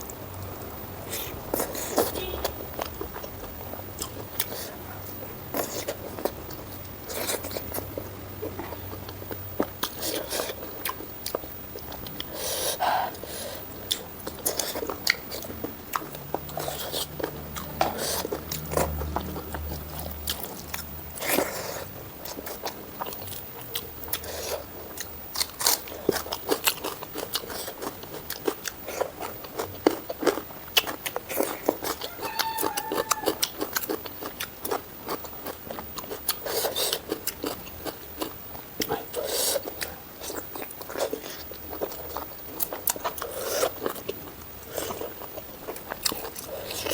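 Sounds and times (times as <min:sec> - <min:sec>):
crunchy bites and chewing: 0:00.0 - 0:46.9.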